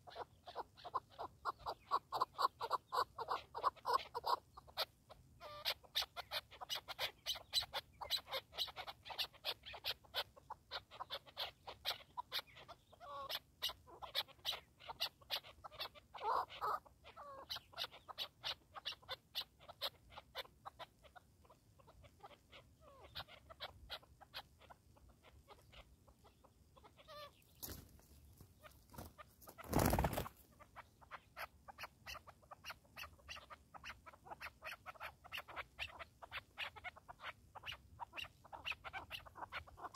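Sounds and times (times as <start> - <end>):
partridges calling: 0.0 - 39.9.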